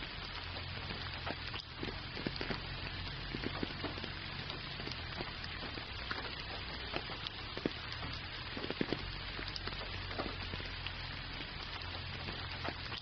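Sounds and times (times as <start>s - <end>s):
gentle rain pattering: 0.0s - 13.0s
raindrop hits: 0.0s - 13.0s.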